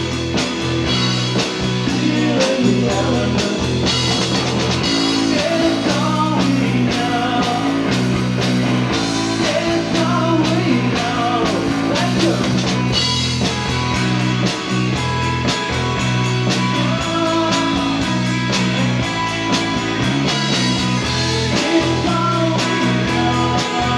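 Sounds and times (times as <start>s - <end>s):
bass guitar: 0.0s - 23.9s
drums with steady beat: 0.0s - 23.9s
electric guitars: 0.0s - 23.9s.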